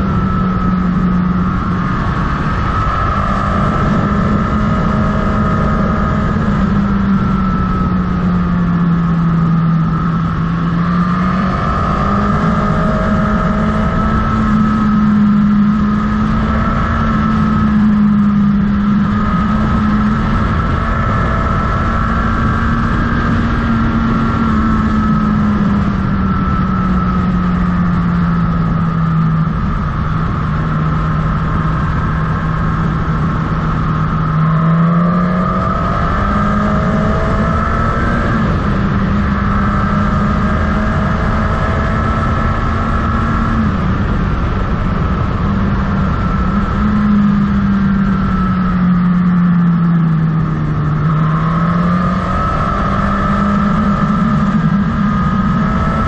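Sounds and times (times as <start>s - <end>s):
motorcycle engine running: 0.0s - 56.0s
wind and road rumble: 0.0s - 56.0s.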